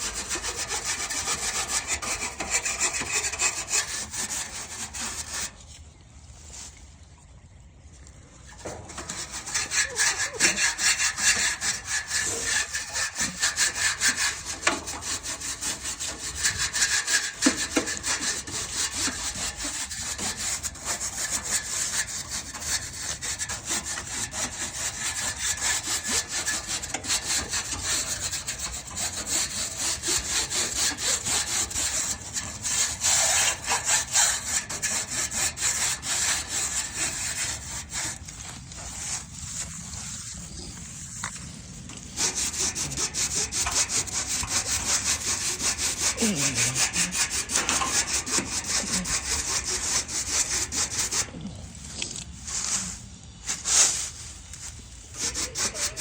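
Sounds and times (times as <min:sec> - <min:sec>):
brush scrubbing metal fins: 0:00.0 - 0:05.8, 0:08.5 - 0:56.0.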